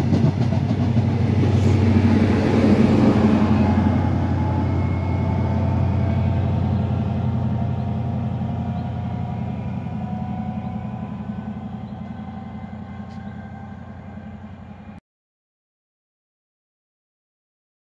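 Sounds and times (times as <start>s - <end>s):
diesel train engine with whine: 0.0s - 15.0s.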